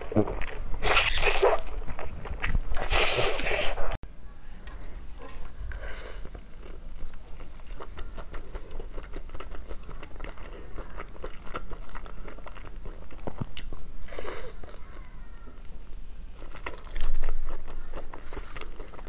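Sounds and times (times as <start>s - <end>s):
biting and chewing meat: 0.0s - 3.9s, 6.1s - 19.0s.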